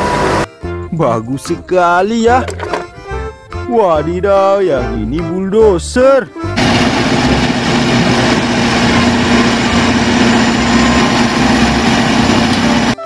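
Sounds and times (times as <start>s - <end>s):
bulldozer diesel engine droning: 0.0s - 4.2s, 4.8s - 13.0s.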